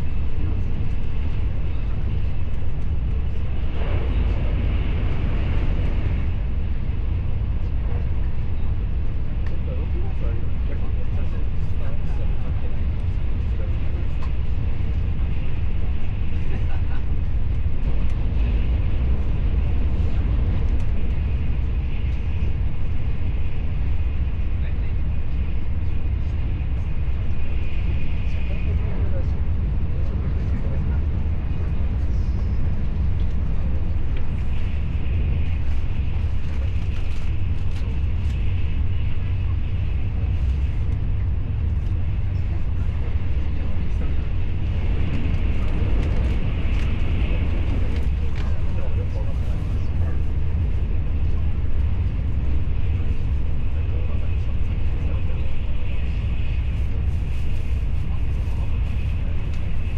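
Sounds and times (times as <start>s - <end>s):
moving vehicle rumble: 0.0s - 59.9s.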